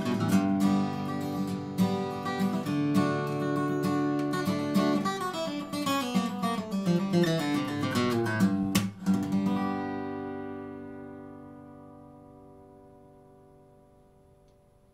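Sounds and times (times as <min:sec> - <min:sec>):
acoustic guitar picked and strummed: 0:00.0 - 0:14.9.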